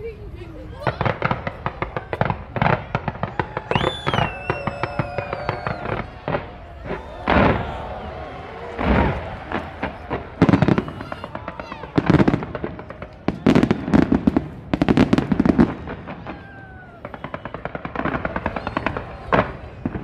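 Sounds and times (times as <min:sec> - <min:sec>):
fireworks bangs and crackles: 0:00.6 - 0:20.0.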